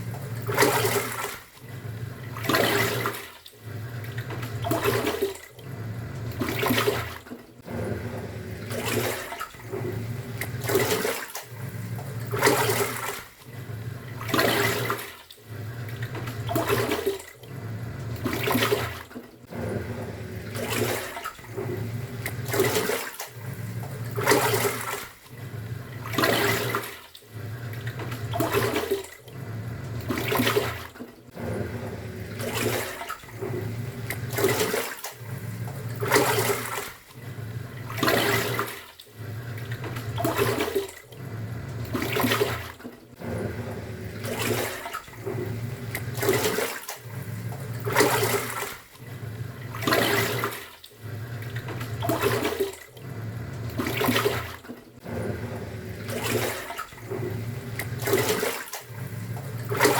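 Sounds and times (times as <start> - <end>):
washing machine motor humming: 0.0 - 59.9
water sloshing: 0.0 - 59.9.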